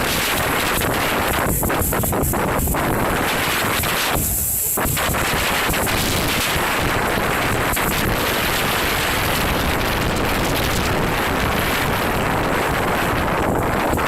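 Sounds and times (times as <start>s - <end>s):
strong gusty wind on microphone: 0.0s - 14.0s.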